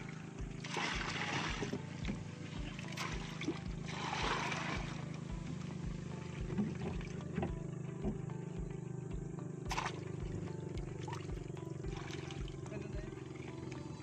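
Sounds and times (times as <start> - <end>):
water splashing: 0.0 - 8.4, 9.7 - 14.0
boat engine idling: 0.0 - 14.0.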